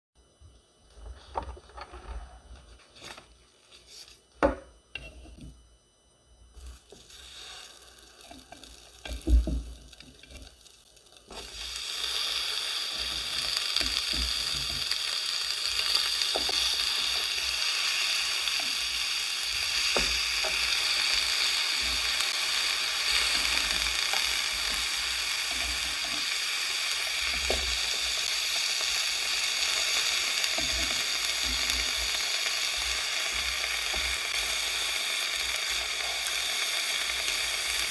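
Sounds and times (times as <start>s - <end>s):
pork sizzling in waffle maker: 3.8s - 5.6s, 6.5s - 37.9s.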